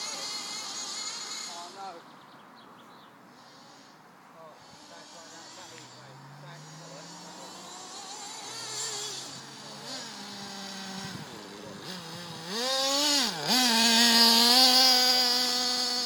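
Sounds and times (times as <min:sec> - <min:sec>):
model car engine revving: 0:00.0 - 0:02.1, 0:03.3 - 0:16.0.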